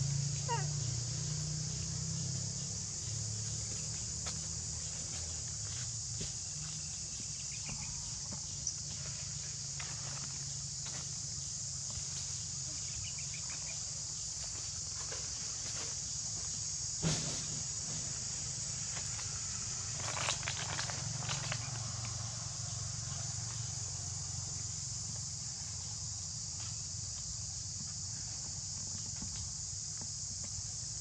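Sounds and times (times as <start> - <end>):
insect chorus: 0.0 - 31.0.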